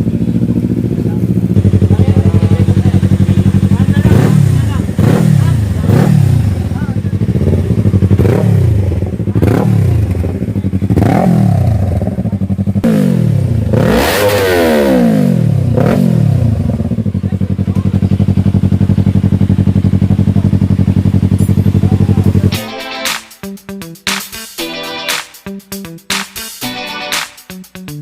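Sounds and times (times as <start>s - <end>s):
motorcycle engine revving and idling: 0.0s - 22.6s.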